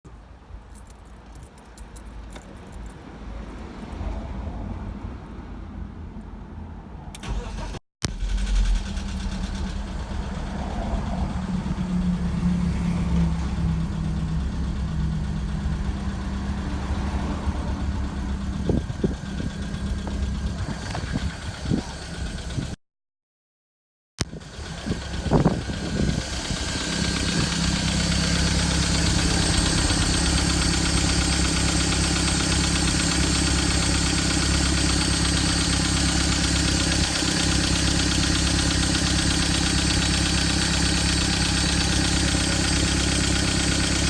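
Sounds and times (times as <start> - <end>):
car engine running: 7.2 - 22.8, 24.2 - 44.0.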